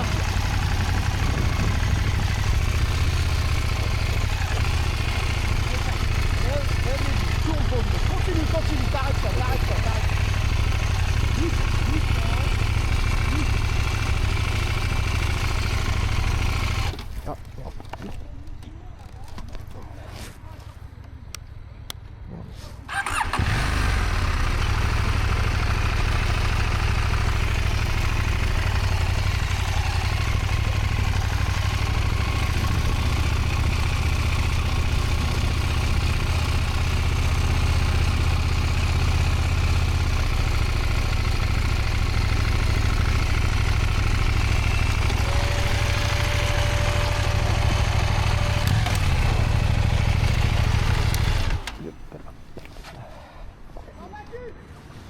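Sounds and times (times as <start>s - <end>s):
motorcycle engine running: 0.0s - 18.2s, 22.9s - 52.7s.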